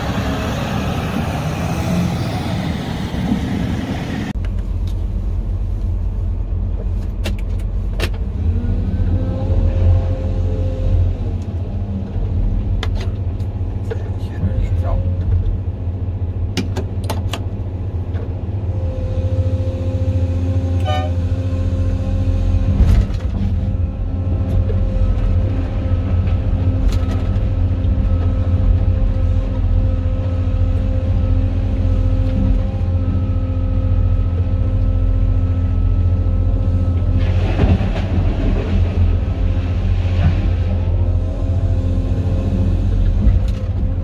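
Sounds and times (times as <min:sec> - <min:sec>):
excavator diesel engine and hydraulics: 0:00.0 - 0:44.0.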